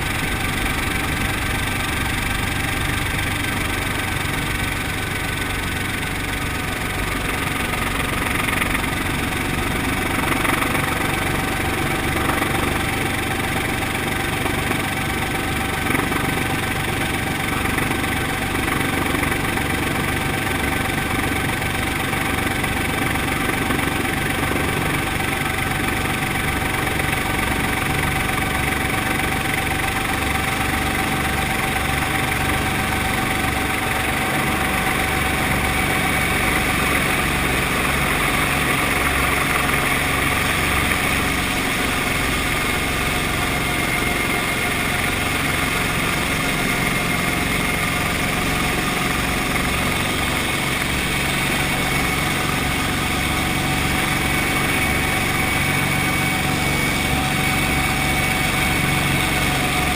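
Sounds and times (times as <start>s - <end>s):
helicopter engine whine: 0.0s - 59.9s.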